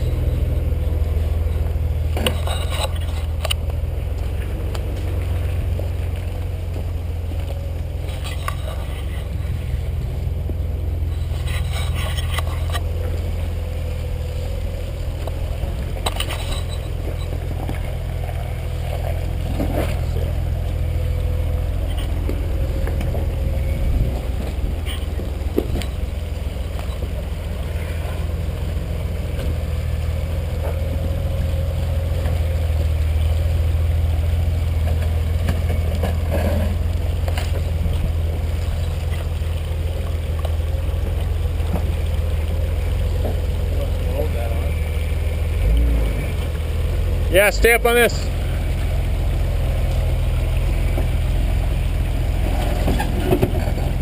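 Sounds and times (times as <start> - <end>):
engine running low: 0.0 - 54.0.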